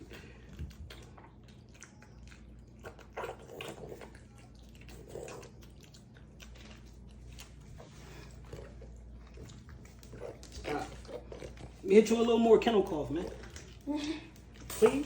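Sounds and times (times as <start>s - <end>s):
dog wet mouth and nose noises: 0.0s - 15.0s
low steady hum: 0.0s - 15.0s.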